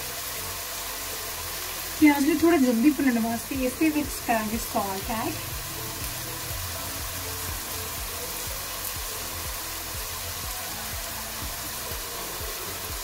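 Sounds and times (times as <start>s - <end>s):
onions sizzling in oil: 0.0s - 13.0s
soft music with low beat: 0.0s - 13.0s.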